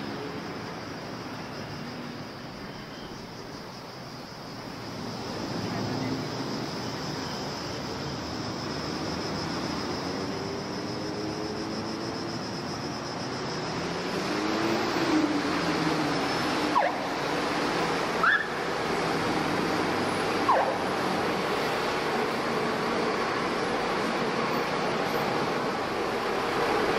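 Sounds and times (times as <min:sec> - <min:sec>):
bus engine: 0:00.0 - 0:26.9
city street traffic: 0:00.0 - 0:26.9.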